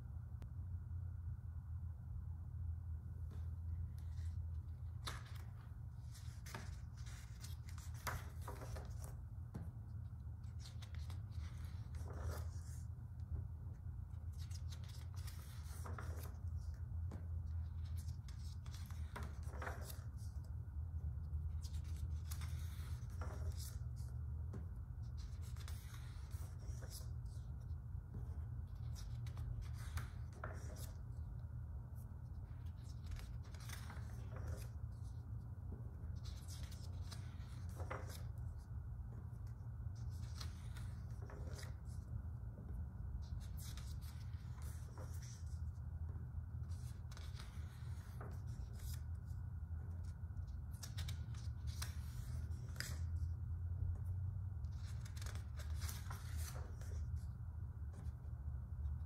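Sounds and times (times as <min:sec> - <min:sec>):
steady low hum: 0:00.0 - 0:59.0
book pages rustling: 0:03.3 - 0:20.5, 0:21.4 - 0:53.3, 0:54.0 - 0:58.3.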